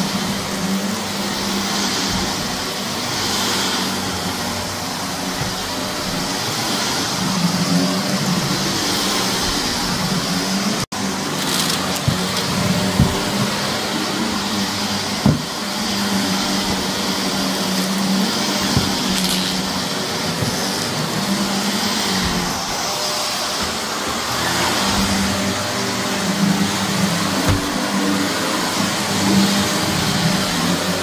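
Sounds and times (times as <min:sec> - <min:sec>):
vacuum cleaner running over carpet: 0:00.0 - 0:31.0.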